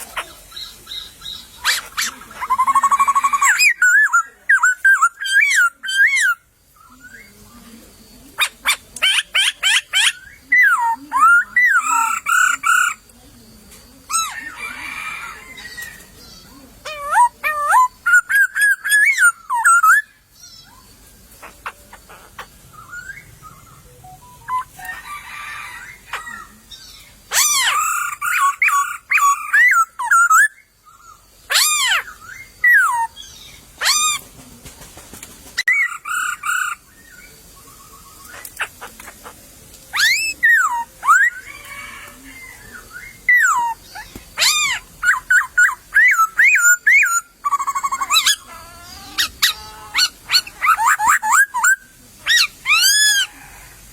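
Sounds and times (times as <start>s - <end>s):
harsh bird calls: 0.0s - 13.4s, 14.0s - 53.7s
birds whistling phrases: 0.0s - 34.3s, 35.6s - 53.7s.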